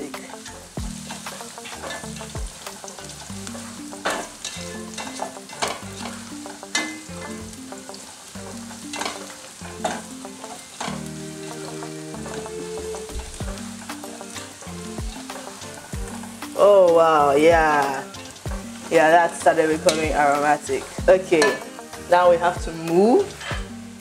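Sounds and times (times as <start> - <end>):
food sizzling in hot oil: 0.0 - 24.0
soft background music: 0.0 - 24.0.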